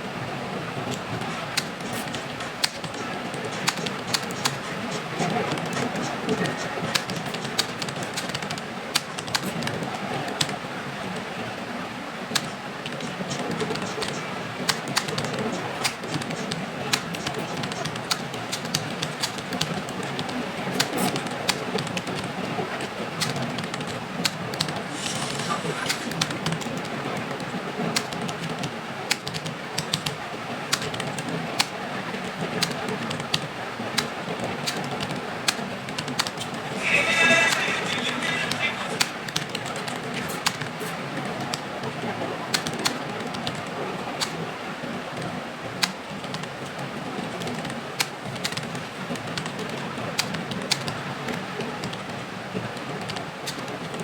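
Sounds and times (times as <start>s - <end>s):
background murmur: 0.0s - 47.6s
keyboard keys clicking: 0.8s - 11.5s, 12.2s - 44.5s, 45.2s - 51.0s.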